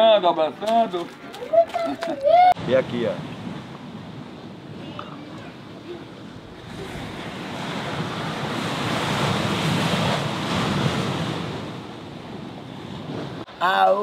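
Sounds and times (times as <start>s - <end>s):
wind: 0.0s - 14.0s
ocean surf: 2.1s - 14.0s.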